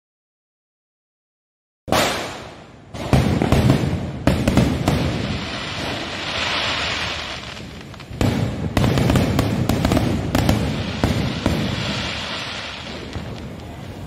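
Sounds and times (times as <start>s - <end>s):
fireworks bangs and crackles: 1.9s - 14.0s.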